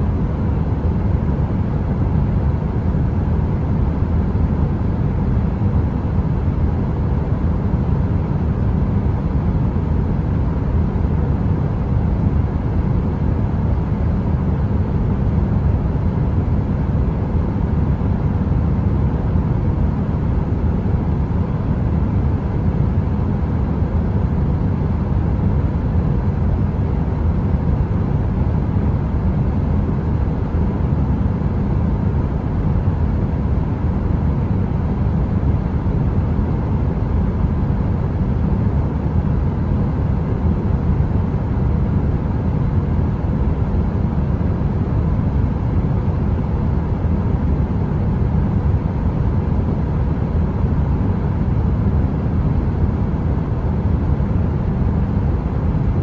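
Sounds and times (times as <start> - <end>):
deep heater noise: 0.0 - 56.0
faint steady hum: 0.0 - 56.0.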